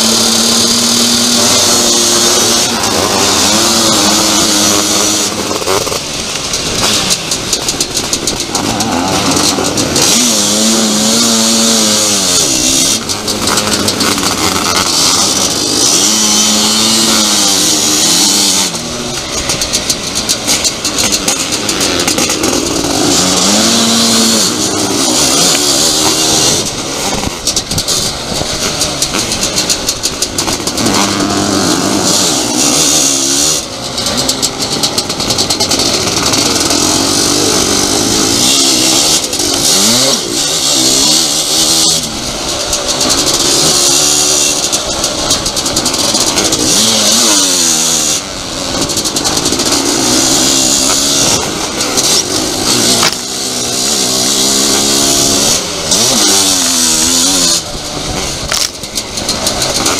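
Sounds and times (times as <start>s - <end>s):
motocross motorcycle engine revving: 0.0s - 59.9s.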